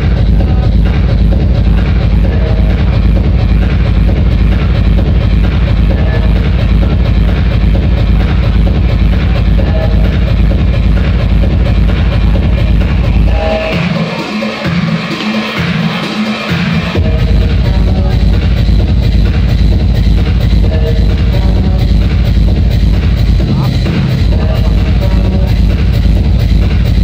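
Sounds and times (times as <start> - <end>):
electronic dance music: 0.0 - 27.0.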